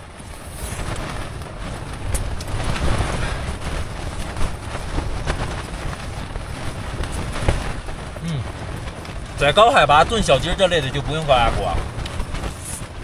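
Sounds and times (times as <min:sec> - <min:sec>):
wind gusting against a tent: 0:00.0 - 0:13.0
wind rumbling on microphone: 0:00.0 - 0:13.0.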